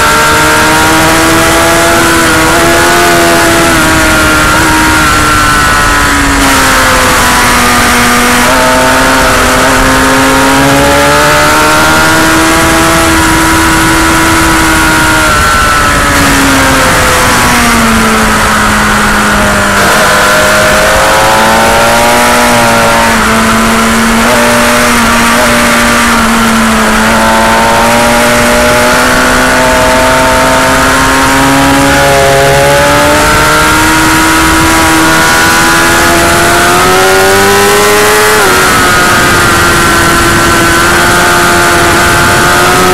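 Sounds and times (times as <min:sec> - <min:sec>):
motorcycle engine revving: 0:00.0 - 0:42.9
wind rush: 0:01.2 - 0:42.9.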